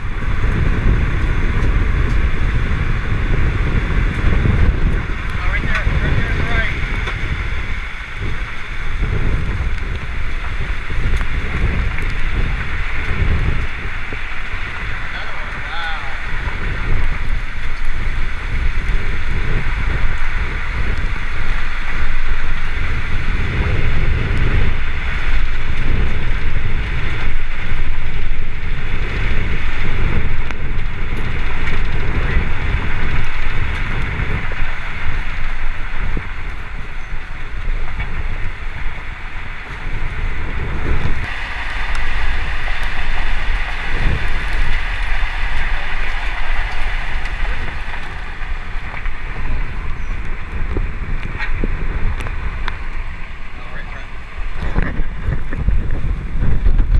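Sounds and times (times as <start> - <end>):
vehicle rumble and hiss: 0.0 - 56.9
wind buffeting microphone: 0.0 - 56.9.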